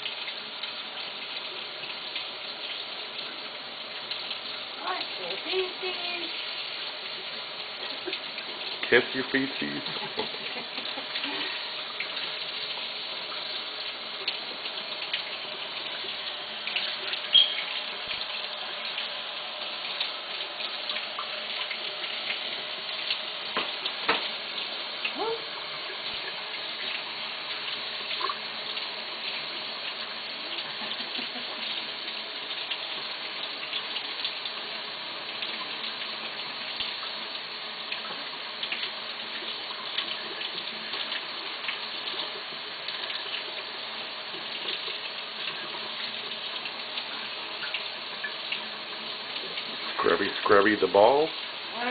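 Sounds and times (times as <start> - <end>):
tap water running into a sink: 0.0 - 51.9.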